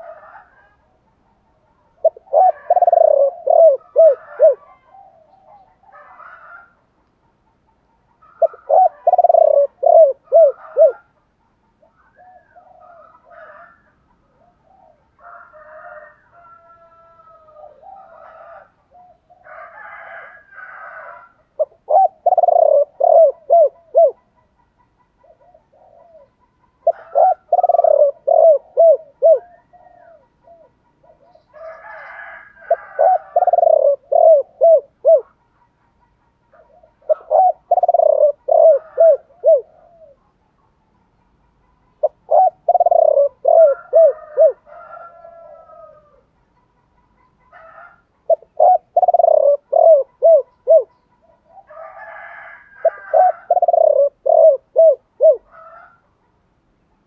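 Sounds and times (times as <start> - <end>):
dove cooing: 0.0 - 6.8, 8.2 - 11.2, 11.8 - 35.7, 36.4 - 40.5, 41.8 - 46.3, 47.4 - 56.1.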